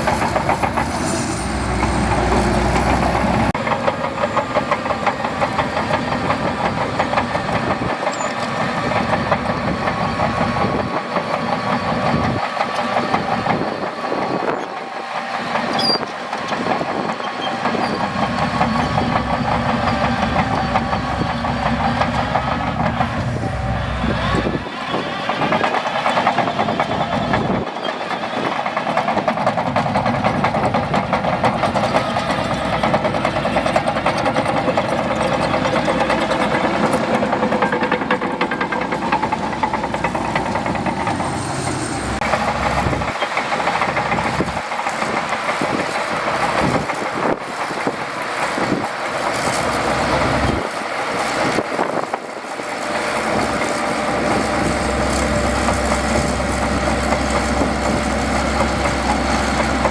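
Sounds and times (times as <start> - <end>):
bulldozer diesel engine clattering: 0.0 - 59.9.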